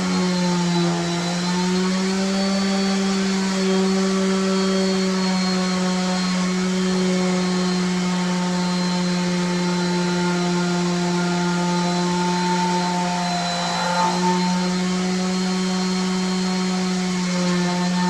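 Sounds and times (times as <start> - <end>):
electric motor humming: 0.0 - 18.0.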